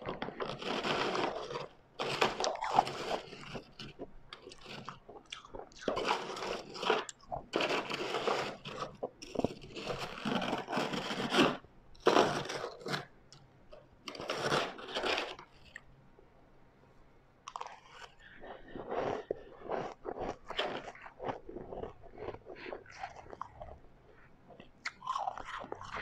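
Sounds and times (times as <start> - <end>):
person crunching ice: 0.0 - 13.1, 13.7 - 15.8, 17.5 - 23.8, 24.9 - 26.0.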